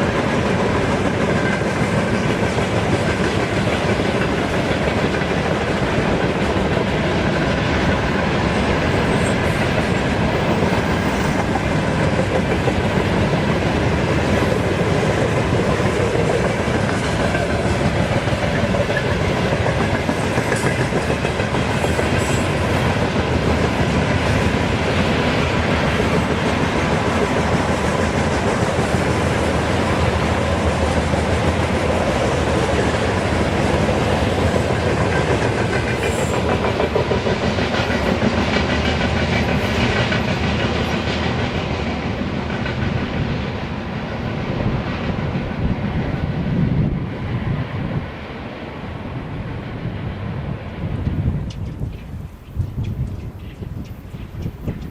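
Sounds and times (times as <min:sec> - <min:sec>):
train wheels clattering over rail joints: 0:00.0 - 0:43.6, 0:51.0 - 0:54.9.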